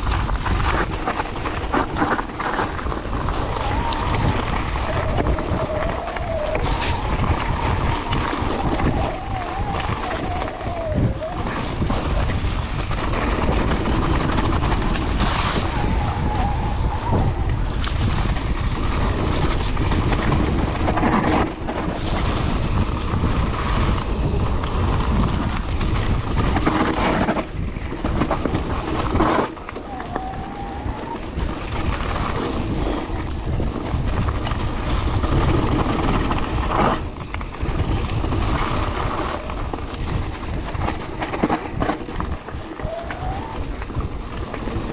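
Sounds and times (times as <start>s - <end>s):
bike rattling over bumps: 0.0s - 44.9s
bike tyres crunching on gravel: 0.0s - 44.9s
wind buffeting microphone: 0.0s - 44.9s.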